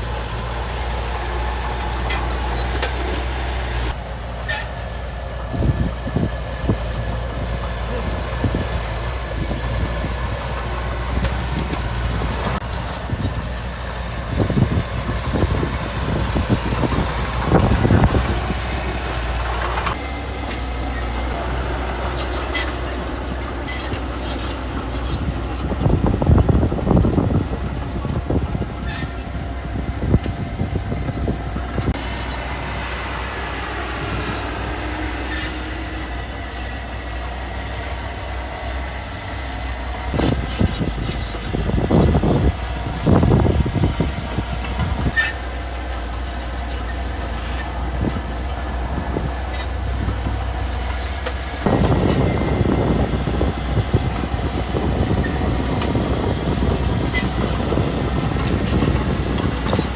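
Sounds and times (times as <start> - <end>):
metallic squeals and clanks: 0.0 - 4.8, 5.6 - 59.9
heavy diesel machinery running: 0.0 - 59.9.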